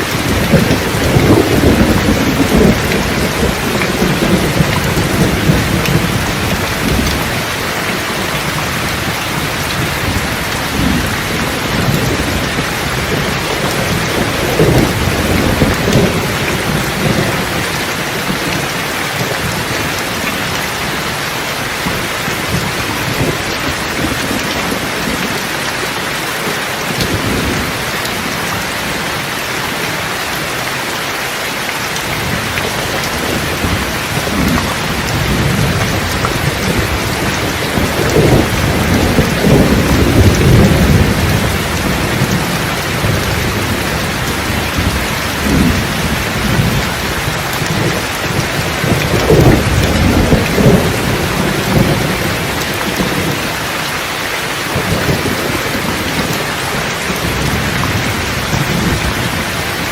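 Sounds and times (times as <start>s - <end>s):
rolling thunder: 0.0s - 21.2s, 21.8s - 25.6s, 32.0s - 53.9s, 54.6s - 59.9s
heavy rain: 0.0s - 59.9s.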